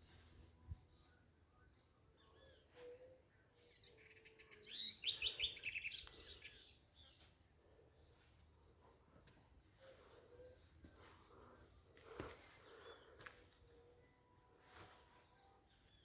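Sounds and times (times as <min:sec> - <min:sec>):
birds chirping and singing: 0:00.0 - 0:16.0.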